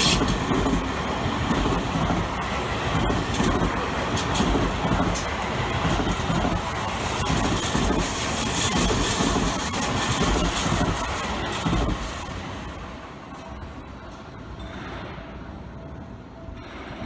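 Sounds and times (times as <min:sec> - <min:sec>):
wheels on rails with sharp clacks: 0:00.0 - 0:15.4
electric train running past: 0:00.0 - 0:17.0.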